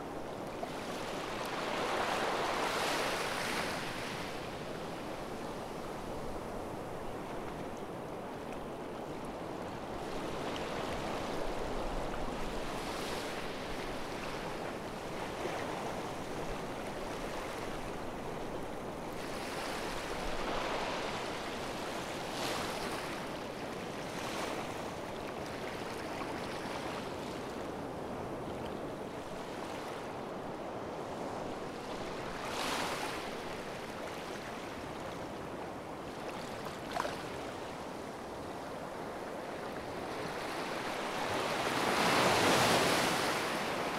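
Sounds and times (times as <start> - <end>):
waves washing onto beach: 0.0 - 43.9.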